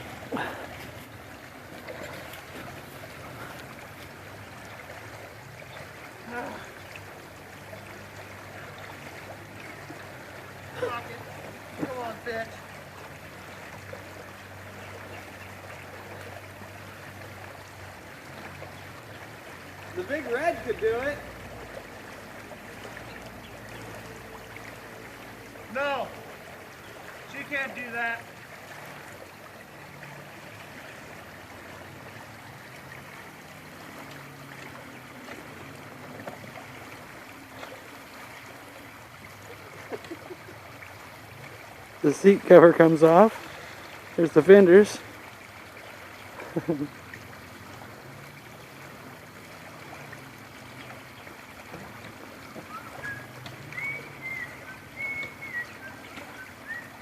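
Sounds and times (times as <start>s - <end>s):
creek rushing: 0.0s - 57.0s.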